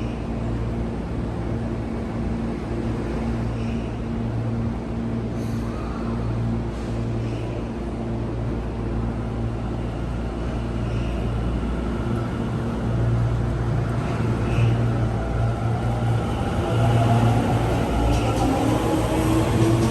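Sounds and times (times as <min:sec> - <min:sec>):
electric train rumbling: 0:00.0 - 0:19.9.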